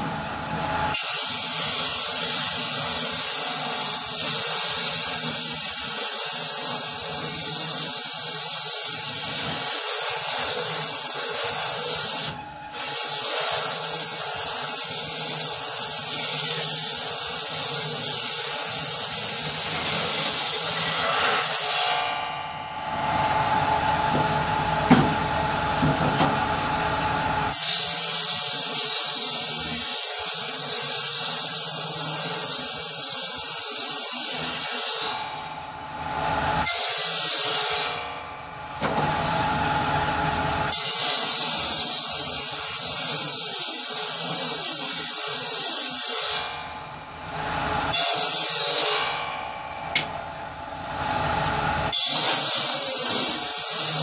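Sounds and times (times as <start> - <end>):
power saw cutting wood: 0.0 - 54.0.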